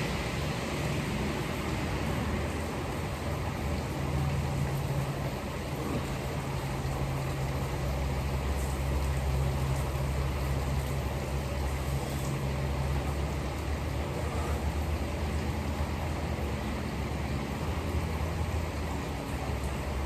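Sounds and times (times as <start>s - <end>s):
steady rain pouring: 0.0s - 20.0s.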